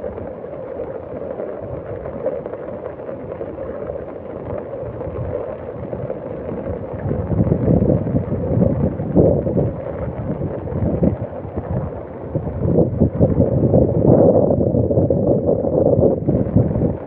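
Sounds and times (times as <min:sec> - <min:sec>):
wind buffeting microphone: 0:01.0 - 0:17.0.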